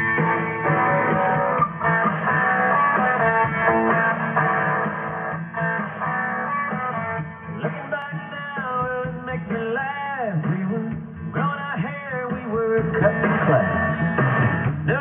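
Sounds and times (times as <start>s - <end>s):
guitar-led music on radio: 0.0s - 15.0s.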